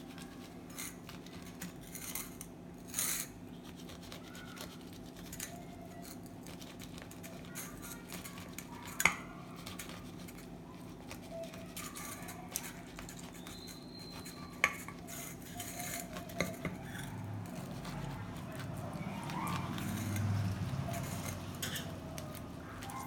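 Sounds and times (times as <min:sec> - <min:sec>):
knife scraping through peel: 0:00.0 - 0:23.0.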